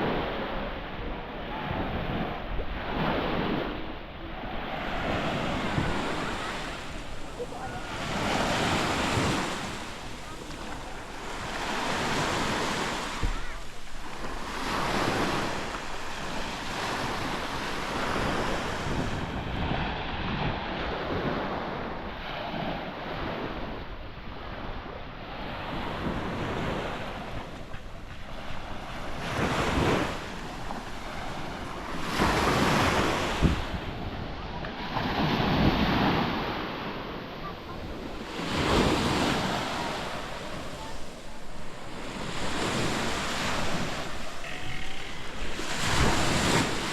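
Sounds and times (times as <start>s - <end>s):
surf washing onto beach: 0.0s - 23.8s, 25.4s - 46.9s
wind buffeting microphone: 0.0s - 24.1s, 25.4s - 46.9s.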